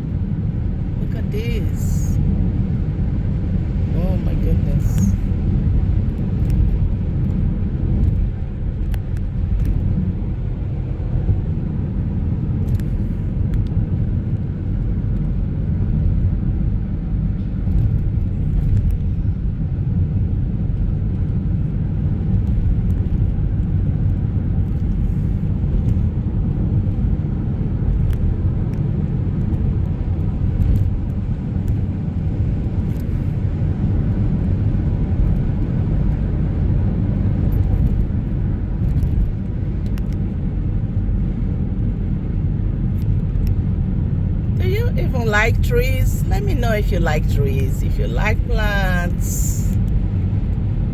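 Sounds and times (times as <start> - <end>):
car road and engine noise: 0.0 - 50.9.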